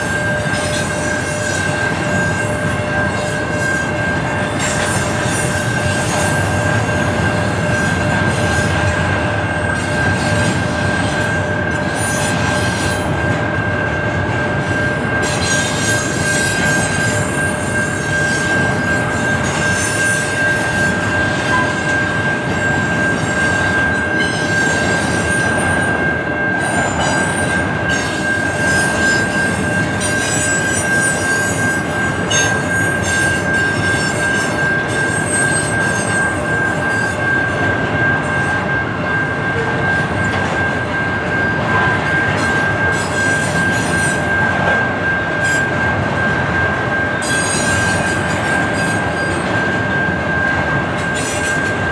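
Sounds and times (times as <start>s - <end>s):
high-pitched wheel squeal: 0.0s - 13.2s, 14.7s - 46.0s, 46.9s - 51.9s
train cars rumbling: 0.0s - 51.9s.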